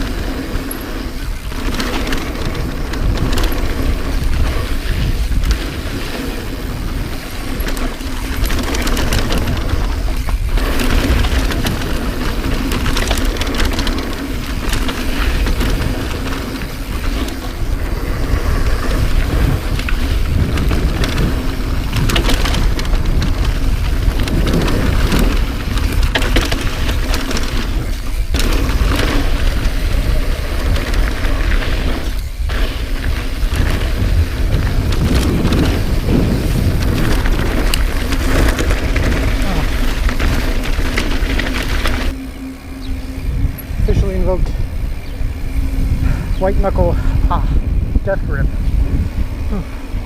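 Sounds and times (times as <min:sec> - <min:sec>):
bike clicks and rattles: 0:00.0 - 0:50.0
tyres rolling over dirt and rocks: 0:00.0 - 0:50.0
wind on microphone: 0:00.0 - 0:50.0.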